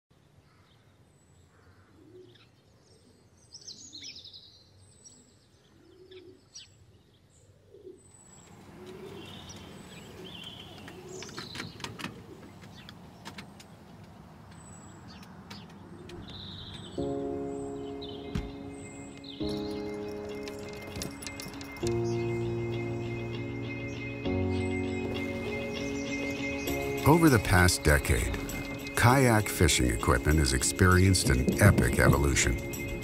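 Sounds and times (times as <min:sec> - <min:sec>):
birds chirping and calling: 0:00.5 - 0:33.0.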